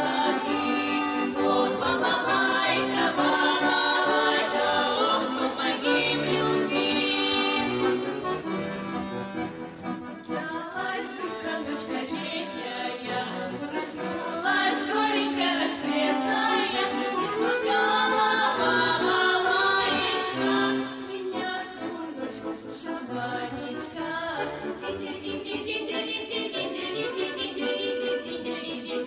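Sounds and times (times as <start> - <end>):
vocal ensemble singing: 0.0 - 8.2, 10.3 - 29.0
accordion: 0.0 - 29.0.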